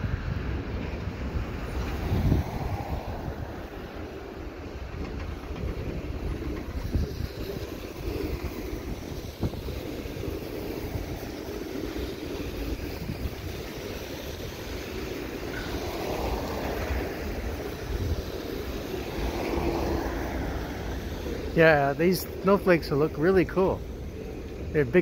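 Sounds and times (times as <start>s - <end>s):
cars driving on snowy road: 0.0s - 25.0s
freight train wheels rumbling: 0.0s - 25.0s.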